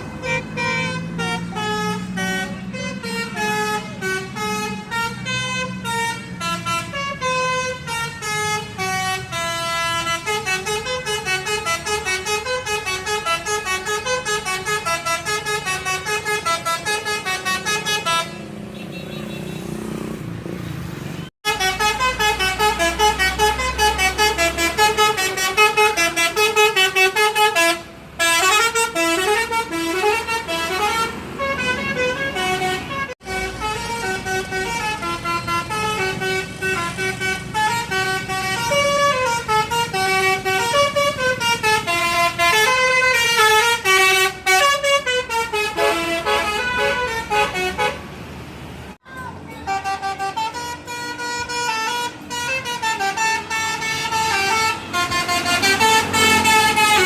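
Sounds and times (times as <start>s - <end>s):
bus horn playing a melody: 0.0s - 19.8s, 21.4s - 48.1s, 49.5s - 57.0s.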